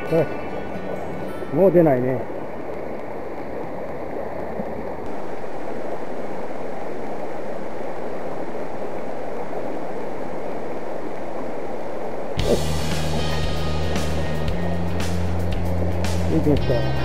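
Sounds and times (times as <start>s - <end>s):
river running over rocks: 0.0s - 14.4s.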